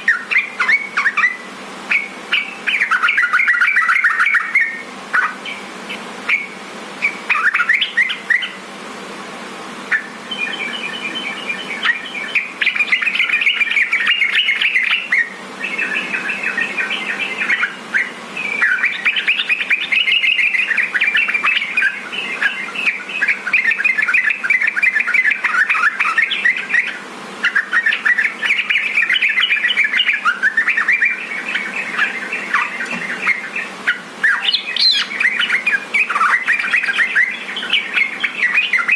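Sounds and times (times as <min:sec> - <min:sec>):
bulbul singing chattering warble: 0:00.0 - 0:08.7, 0:09.7 - 0:38.9.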